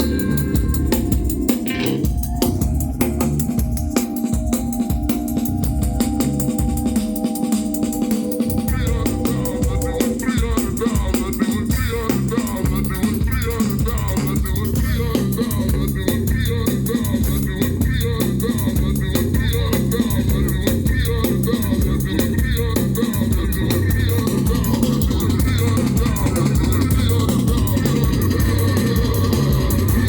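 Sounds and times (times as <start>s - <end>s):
bass line: 0.0s - 7.0s, 8.5s - 30.0s
live band playing: 0.0s - 18.5s, 23.0s - 30.0s
steady drum beat: 0.0s - 30.0s.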